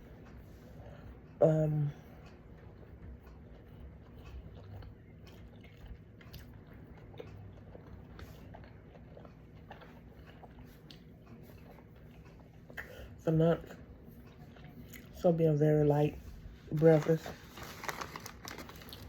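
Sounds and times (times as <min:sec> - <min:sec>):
person chewing food: 0:00.0 - 0:15.4.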